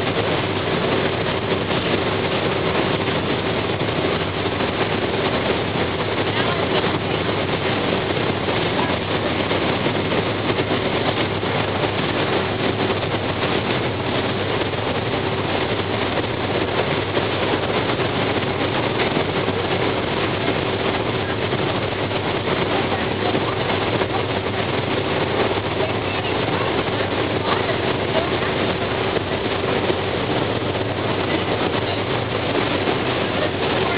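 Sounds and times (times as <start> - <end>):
machinery rumble: 0.0 - 33.9
steady hum: 0.0 - 33.9
wake water rushing: 0.0 - 33.9
wind: 0.0 - 33.9.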